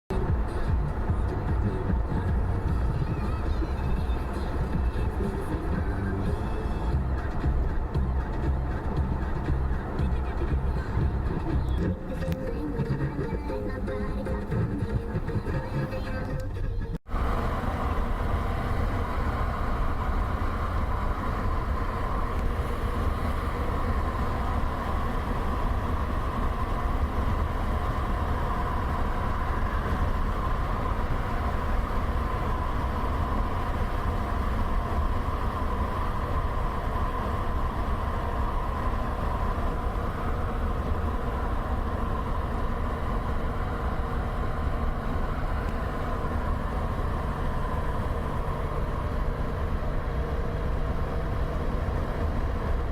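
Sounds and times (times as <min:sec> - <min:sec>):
car driving on highway: 0:00.1 - 0:52.9.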